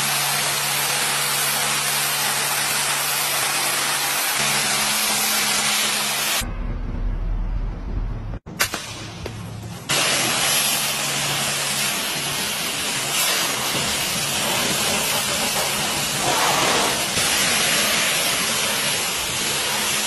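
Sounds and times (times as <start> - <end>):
pressure washer spraying water: 0.0 - 6.4, 8.6 - 20.0.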